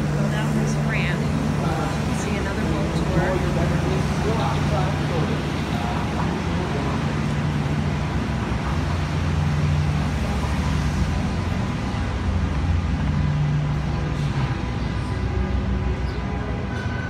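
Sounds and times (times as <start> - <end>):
traffic rush: 0.0 - 17.0.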